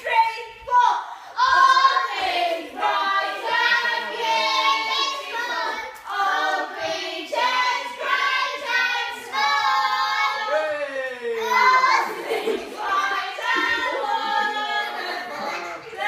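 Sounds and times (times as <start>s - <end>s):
young people singing together: 0.0s - 10.7s, 11.4s - 16.0s.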